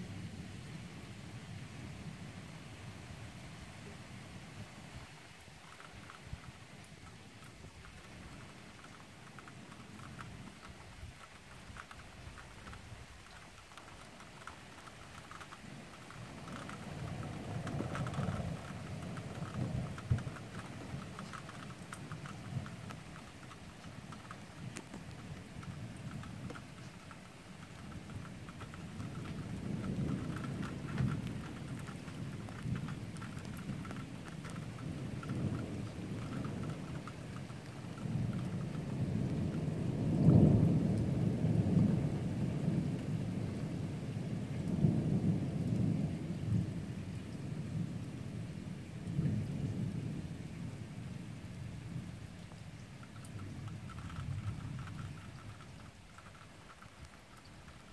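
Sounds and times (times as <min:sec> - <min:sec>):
rain falling: 0:00.0 - 0:57.9
thunder rumbling: 0:07.4 - 0:57.9.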